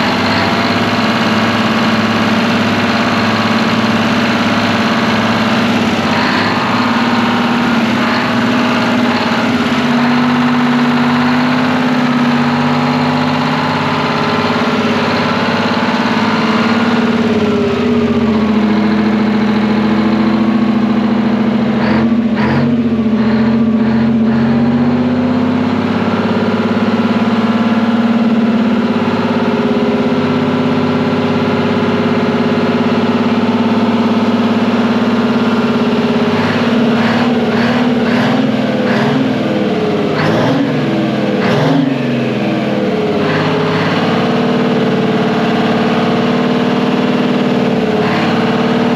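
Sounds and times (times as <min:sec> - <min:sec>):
diesel generator engine running: 0:00.0 - 0:48.9.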